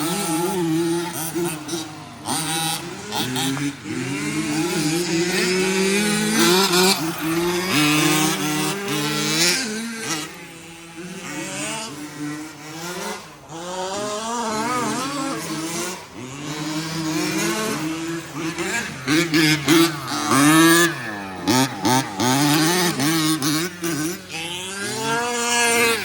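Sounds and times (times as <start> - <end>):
remote-control truck motors whining: 0.0 - 26.0.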